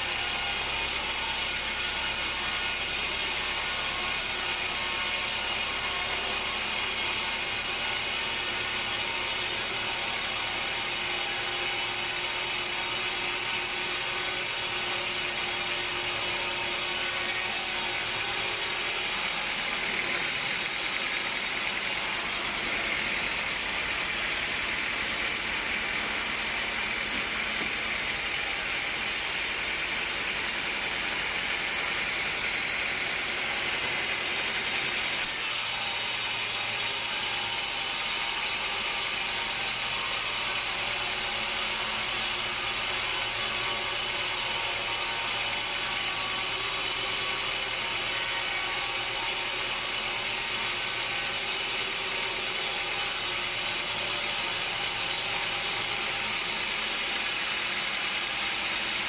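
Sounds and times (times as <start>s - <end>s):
sawmill machinery din: 0.0s - 59.0s.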